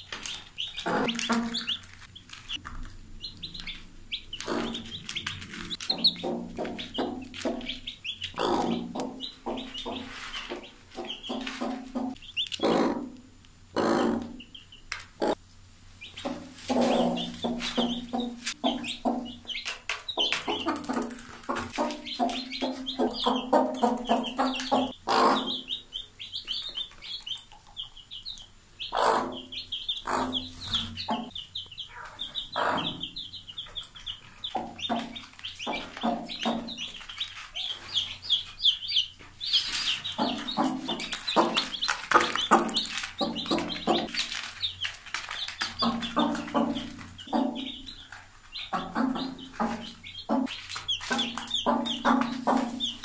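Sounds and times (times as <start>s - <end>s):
hen clucking: 0.0s - 15.4s, 16.0s - 53.0s
chicks peeping: 0.0s - 53.0s.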